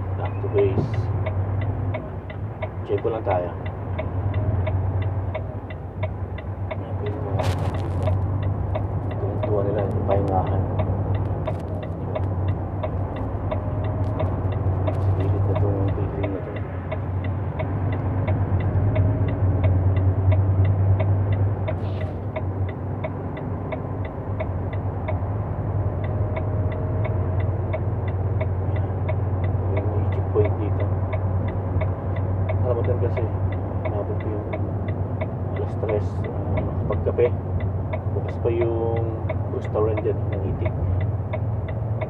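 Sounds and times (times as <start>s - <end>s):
road noise: 0.0s - 42.0s
truck engine droning: 0.0s - 42.0s
rapid even ticking: 0.2s - 42.0s.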